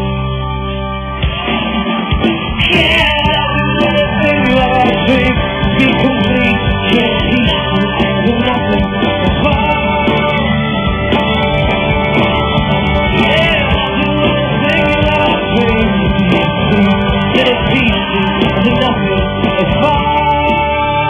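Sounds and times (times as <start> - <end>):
live rock band: 0.0 - 21.0
person singing: 2.5 - 21.0.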